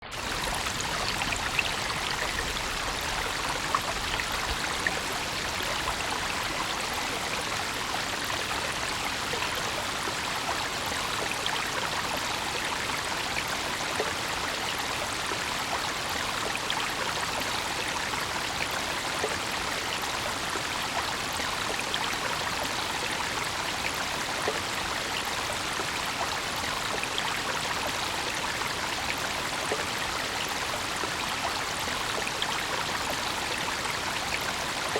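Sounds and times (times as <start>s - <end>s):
brook water splashing over stones: 0.0s - 34.9s.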